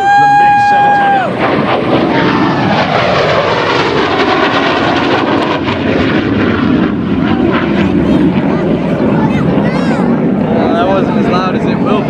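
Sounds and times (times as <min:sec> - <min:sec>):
jet aircraft passing low: 0:00.0 - 0:12.0.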